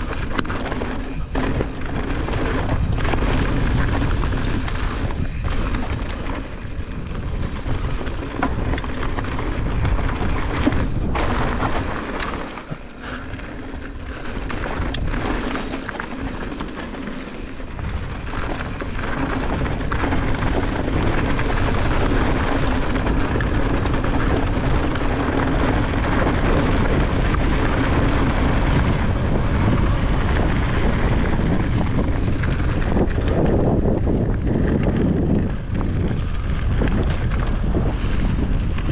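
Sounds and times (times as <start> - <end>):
tyres crunching over gravel: 0.0 - 38.2
bike rattling: 0.0 - 38.9
wind rumble on microphone: 0.0 - 38.9.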